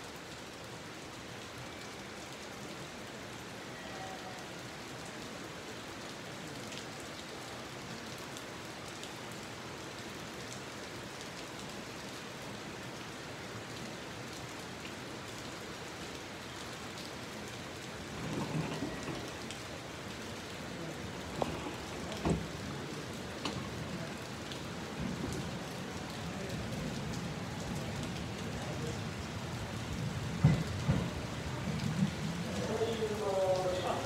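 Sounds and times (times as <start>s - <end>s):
outdoor hiss: 0.0s - 34.0s.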